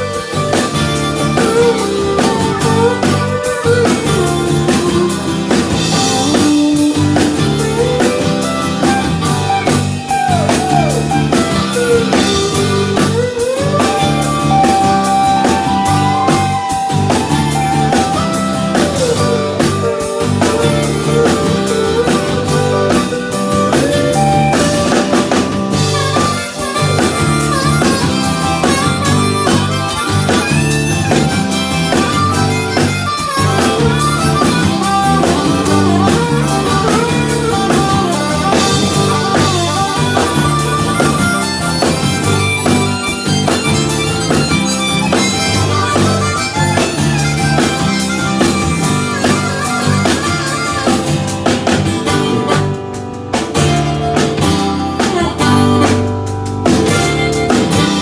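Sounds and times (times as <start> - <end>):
country band playing: 0.0 - 58.0.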